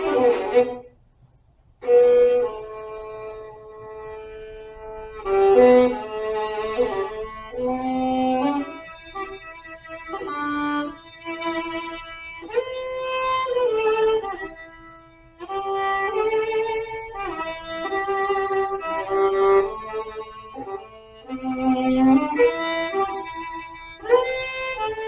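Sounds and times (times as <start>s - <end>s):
violin slow melody: 0.0s - 1.0s, 1.8s - 25.0s.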